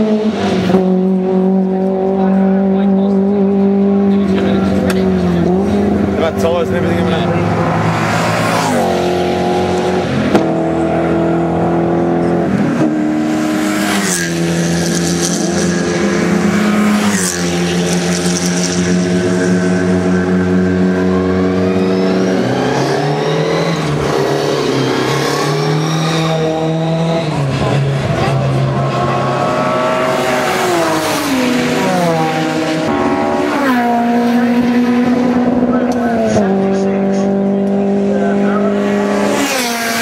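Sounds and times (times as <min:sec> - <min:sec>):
car accelerating: 0:00.0 - 0:40.0
race car engines: 0:00.0 - 0:40.0.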